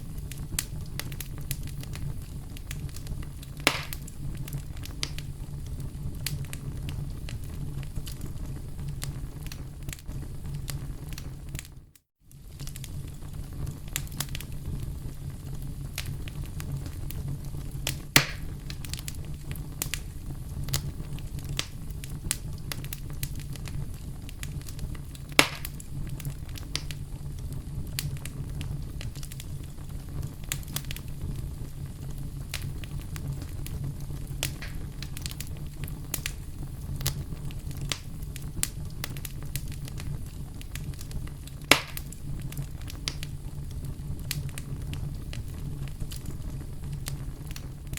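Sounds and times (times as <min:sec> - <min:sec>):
campfire crackling: 0:00.0 - 0:11.7, 0:12.3 - 0:47.9
loud fire pops: 0:00.0 - 0:47.9.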